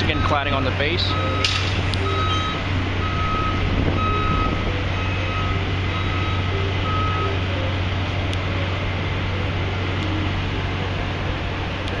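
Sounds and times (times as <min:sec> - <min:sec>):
reversing alarm beeping: 0:00.0 - 0:11.9
low hum of traffic: 0:00.0 - 0:12.0.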